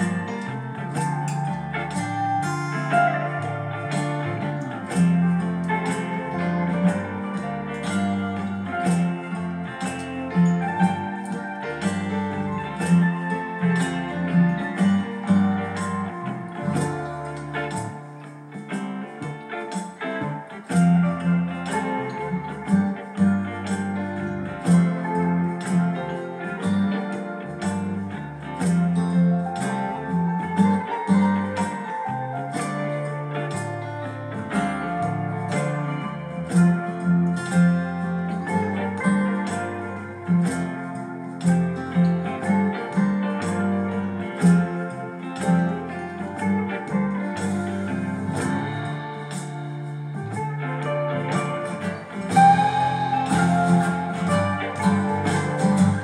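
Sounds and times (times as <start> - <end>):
plucked guitar music with bass: 0.0 - 56.0.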